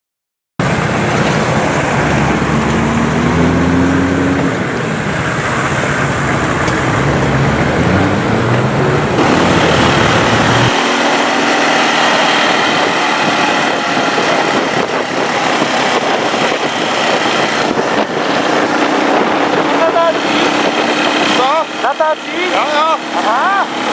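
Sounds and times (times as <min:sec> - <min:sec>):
loud rushing noise: 0:00.6 - 0:23.9
off-road vehicle engine revving: 0:00.6 - 0:23.9.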